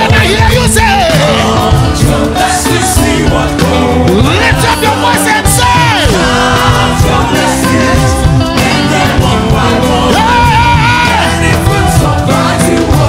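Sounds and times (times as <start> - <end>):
backing vocalists singing: 0.0 - 13.0
full band playing: 0.0 - 13.0
lead singer: 0.0 - 13.0.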